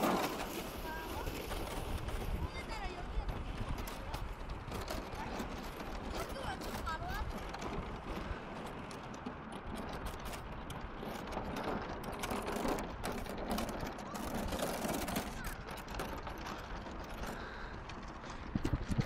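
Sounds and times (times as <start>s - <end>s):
wind on microphone: 0.7s - 17.5s, 18.3s - 19.0s.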